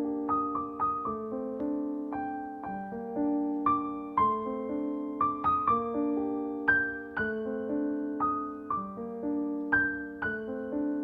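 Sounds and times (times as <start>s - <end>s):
soft slow piano: 0.0s - 11.0s.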